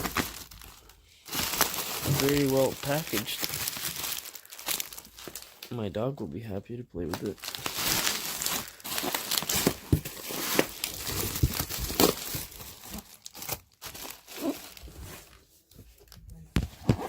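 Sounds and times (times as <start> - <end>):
packing material crinkling and tearing: 0.0 - 5.7, 7.1 - 17.0.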